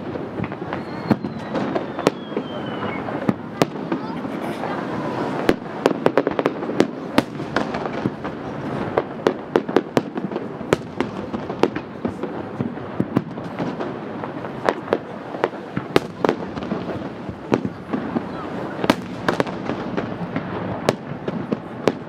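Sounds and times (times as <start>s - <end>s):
constant background noise: 0.0s - 22.0s.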